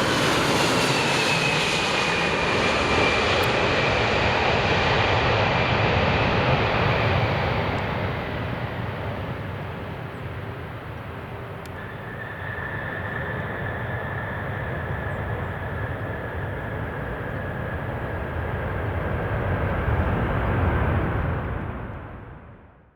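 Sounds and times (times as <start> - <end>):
high jet whine: 0.0 - 22.4
jet engines roaring: 0.0 - 22.4.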